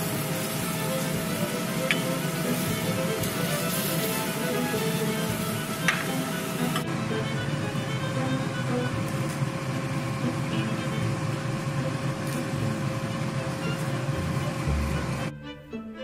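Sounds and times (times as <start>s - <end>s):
machine whir with hum: 0.0s - 15.6s
background music: 0.0s - 16.0s.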